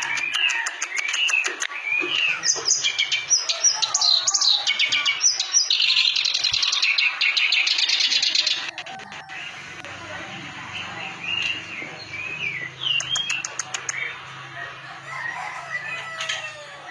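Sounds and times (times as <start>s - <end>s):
reed warbler singing: 0.0s - 14.3s.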